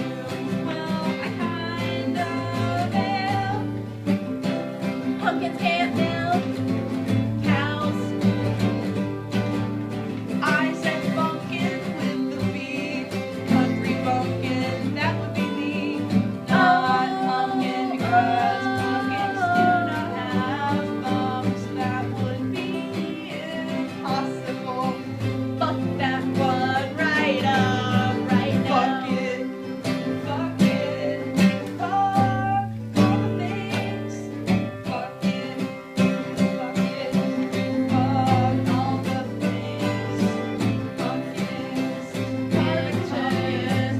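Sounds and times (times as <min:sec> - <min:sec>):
person singing with a twang: 0:00.0 - 0:04.0, 0:05.0 - 0:09.1, 0:10.3 - 0:43.9
acoustic guitar strumming: 0:00.0 - 0:43.9.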